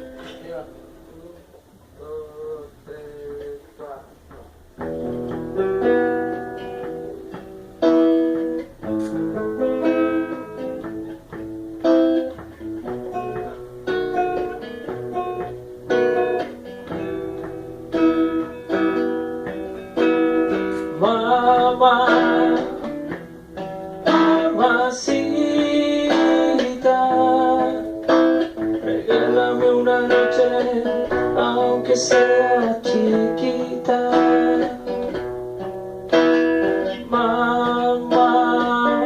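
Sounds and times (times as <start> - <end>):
guitar picked notes: 0.0 - 39.0
guitar strummed chords: 0.0 - 39.0.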